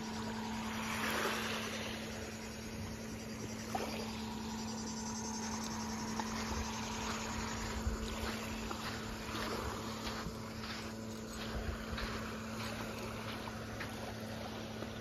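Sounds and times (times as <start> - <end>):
small waves lapping on sand: 0.0 - 15.0
steady low hum: 0.0 - 15.0.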